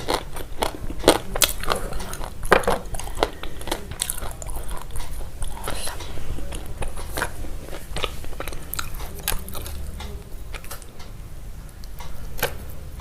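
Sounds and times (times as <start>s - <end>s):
crunchy biting and chewing: 0.0s - 11.0s.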